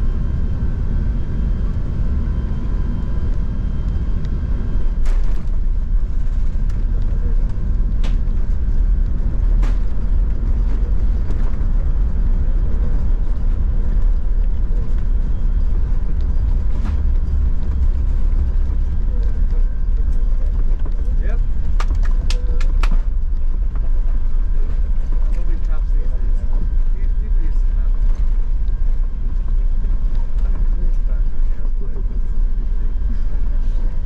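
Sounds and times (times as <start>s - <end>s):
aircraft cabin rumble: 0.0s - 34.0s.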